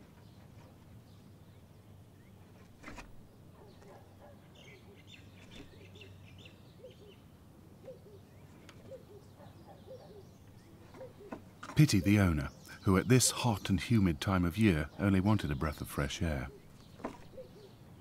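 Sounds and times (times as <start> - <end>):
faint chirping calls: 0.0 - 18.0.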